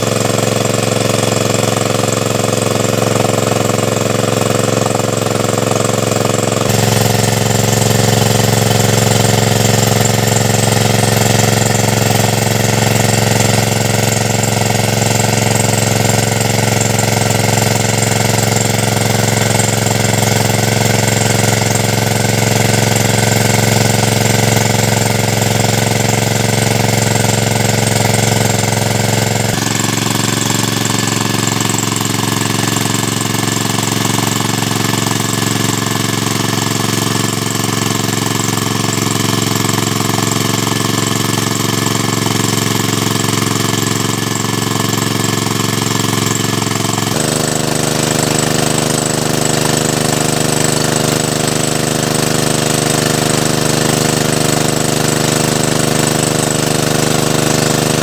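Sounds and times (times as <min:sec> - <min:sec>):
petrol water pump running: 0:00.0 - 0:58.0.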